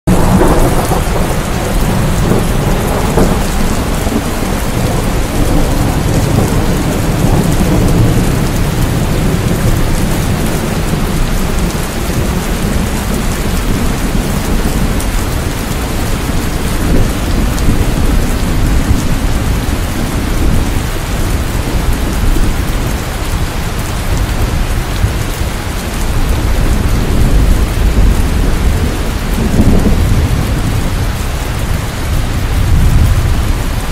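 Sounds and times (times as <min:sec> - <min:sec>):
heavy rain pouring: 0:00.0 - 0:33.9
deep rumble: 0:00.1 - 0:33.9.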